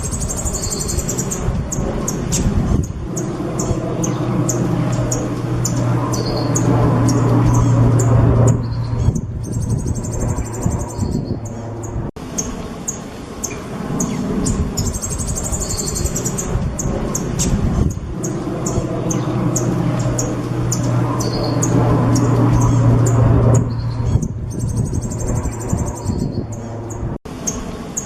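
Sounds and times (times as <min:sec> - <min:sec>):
songbird chirping and trilling: 0:00.0 - 0:28.0.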